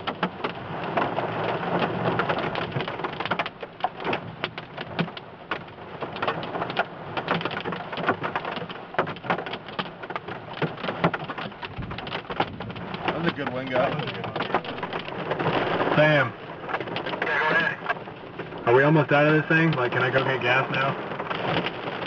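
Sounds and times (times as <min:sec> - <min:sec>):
hailstones pelting: 0:00.0 - 0:22.0.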